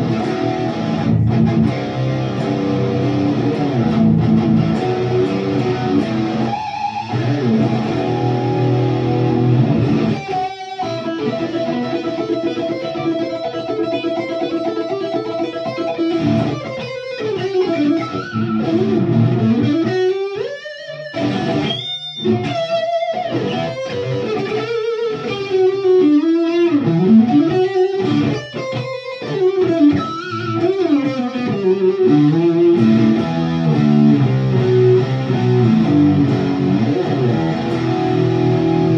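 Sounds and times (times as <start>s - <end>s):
electric guitar through an amp: 0.0s - 38.9s.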